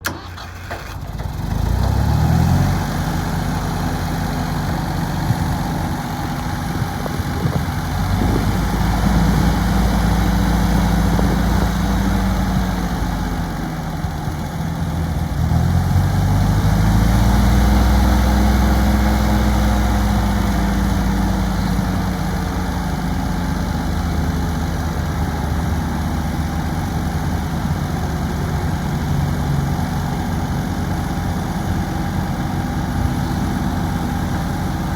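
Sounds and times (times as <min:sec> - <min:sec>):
tractor engine revving: 0:00.0 - 0:34.9.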